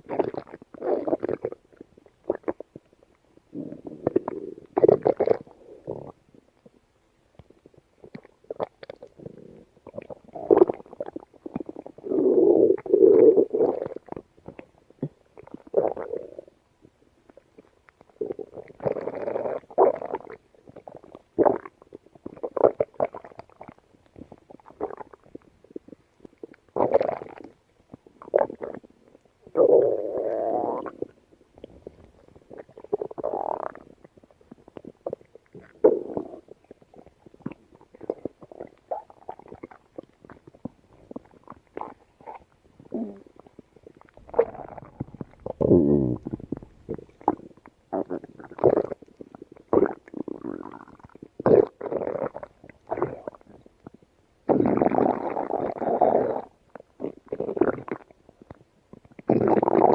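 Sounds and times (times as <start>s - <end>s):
dog stomach gurgling and rumbling: 0.0s - 59.9s.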